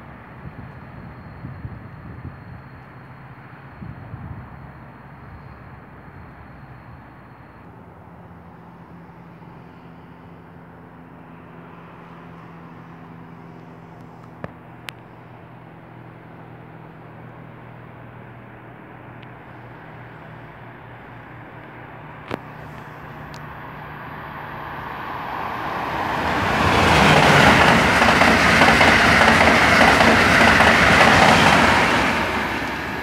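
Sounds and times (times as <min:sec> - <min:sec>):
distant train rumble: 0:00.0 - 0:33.0.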